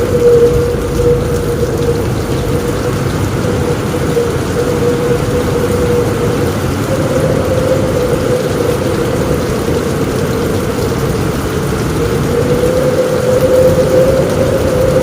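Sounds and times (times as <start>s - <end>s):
heavy rain and wind on a roof: 0.0s - 15.0s
wavering hum: 0.0s - 15.0s.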